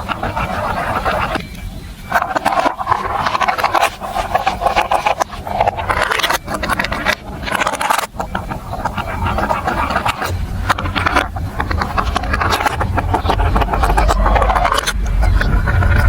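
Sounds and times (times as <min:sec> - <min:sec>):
marbles rolling on plastic track: 0:02.1 - 0:16.0.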